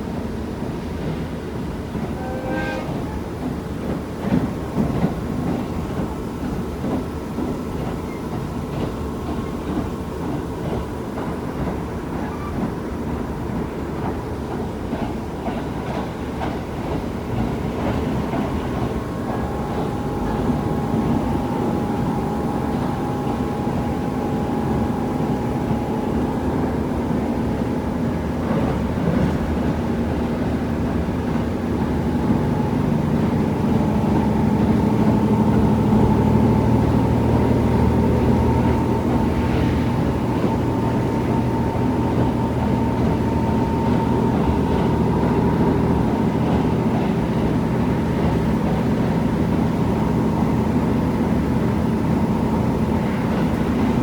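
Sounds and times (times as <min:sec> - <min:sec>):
train wheels clicking over rail joints: 0:01.0 - 0:54.0.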